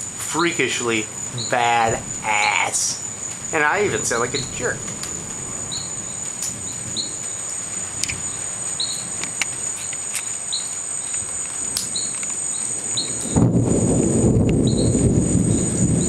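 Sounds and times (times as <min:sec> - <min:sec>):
insect short chirps: 0:00.0 - 0:13.4, 0:14.6 - 0:16.0
crickets trilling: 0:00.0 - 0:16.0.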